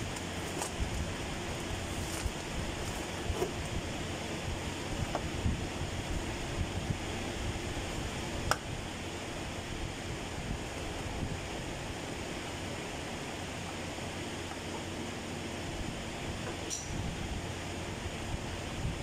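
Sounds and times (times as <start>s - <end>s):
faint steady hum: 0.0s - 19.0s
low rumble and hiss: 0.0s - 19.0s.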